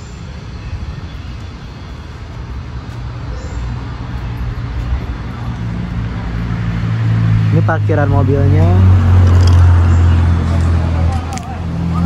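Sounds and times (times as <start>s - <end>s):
road traffic: 0.0s - 12.0s
vehicle engine humming: 0.0s - 12.0s.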